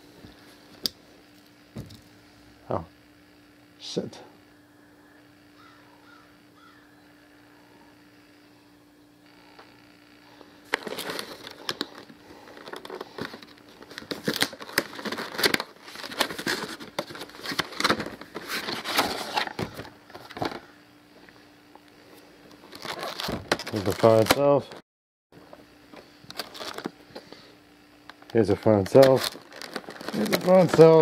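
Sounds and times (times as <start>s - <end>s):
faint steady hum: 0.0s - 24.8s, 25.4s - 31.0s.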